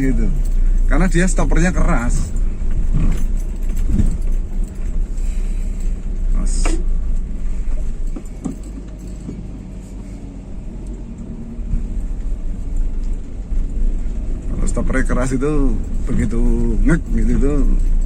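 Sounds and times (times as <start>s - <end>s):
road and engine noise in car: 0.0s - 18.0s.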